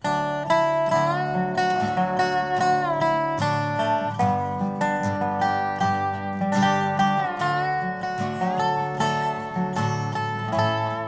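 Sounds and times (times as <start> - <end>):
acoustic guitar: 0.0 - 11.0
dobro slide bending notes: 0.5 - 11.0.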